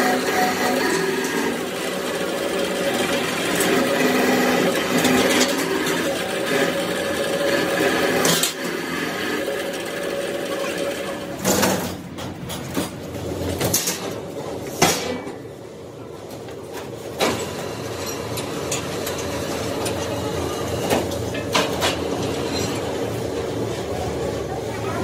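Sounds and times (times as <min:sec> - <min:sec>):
factory machinery running: 0:00.0 - 0:25.0.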